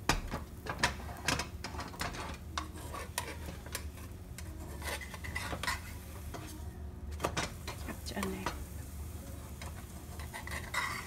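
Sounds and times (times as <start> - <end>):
pan shifting on burner: 0.0 - 11.0
utensil tapping and scraping in pan: 0.0 - 11.0.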